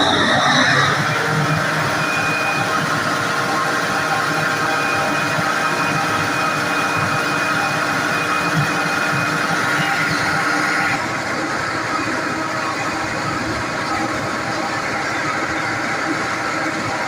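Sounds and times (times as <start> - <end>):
diesel engine running: 0.0 - 17.0
high whine: 0.0 - 17.0.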